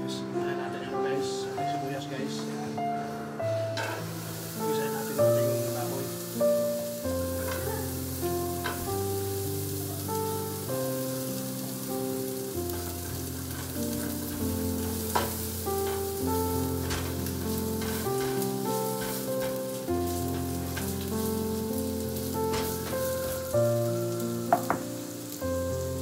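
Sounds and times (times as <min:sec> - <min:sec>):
background music with chords: 0:00.0 - 0:26.0
food sizzling in oil: 0:03.4 - 0:26.0.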